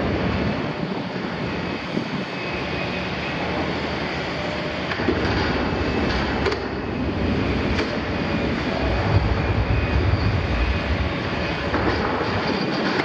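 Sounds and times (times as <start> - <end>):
diesel excavator engine running: 0.0 - 13.0.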